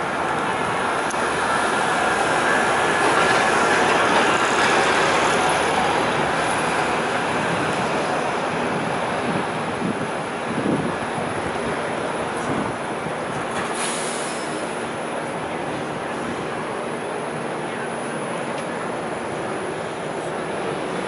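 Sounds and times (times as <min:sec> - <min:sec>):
loud city traffic: 0:00.0 - 0:21.0.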